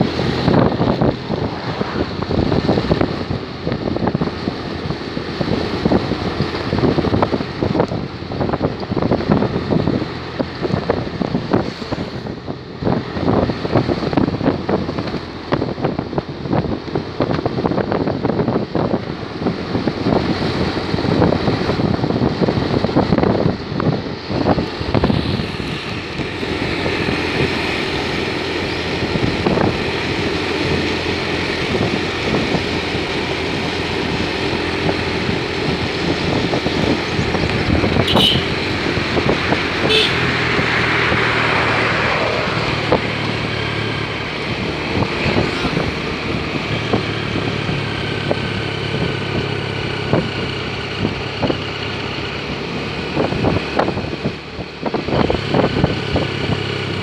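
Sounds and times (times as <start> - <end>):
vehicle engine drone: 0.0 - 57.0
wind buffeting microphone: 0.0 - 57.0.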